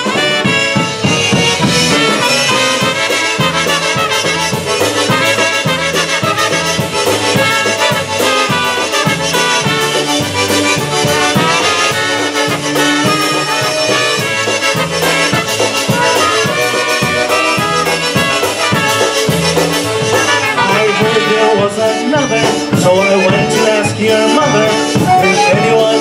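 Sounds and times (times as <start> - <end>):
accordion and concertina tune: 0.0 - 26.0
regular bass beat: 0.0 - 26.0.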